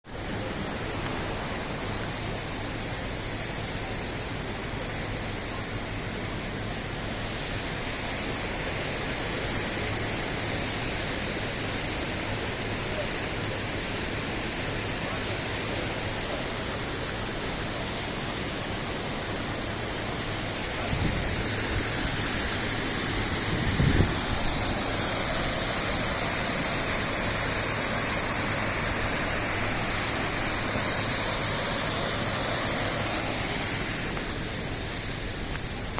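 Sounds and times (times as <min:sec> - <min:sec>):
river rushing: 0:00.2 - 0:35.9.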